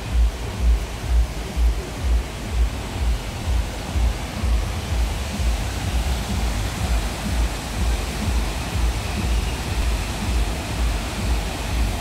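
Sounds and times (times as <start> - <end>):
heavy low rumble: 0.0 - 12.0
waterfall and river rushing: 0.0 - 12.0.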